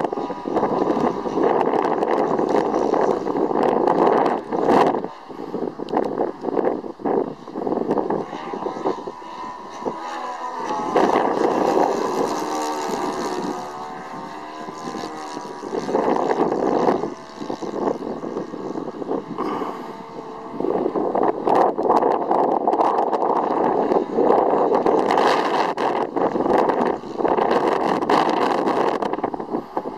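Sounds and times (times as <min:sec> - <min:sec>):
model aircraft engine: 0:00.0 - 0:29.9
wind buffeting microphone: 0:00.0 - 0:29.9.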